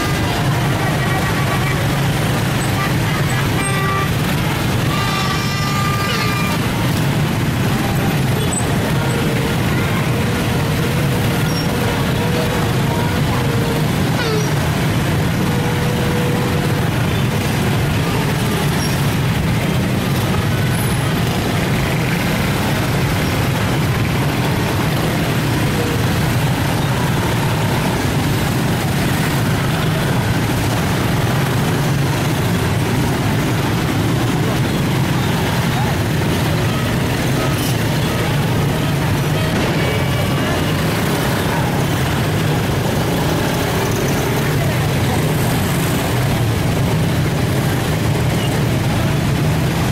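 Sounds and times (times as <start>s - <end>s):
bus and truck engines rumbling: 0.0s - 49.9s
voices: 0.0s - 49.9s.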